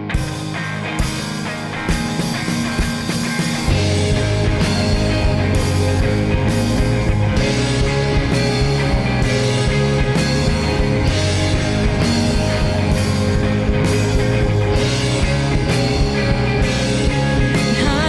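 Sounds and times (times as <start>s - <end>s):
rock band playing instrumental: 0.0s - 18.0s.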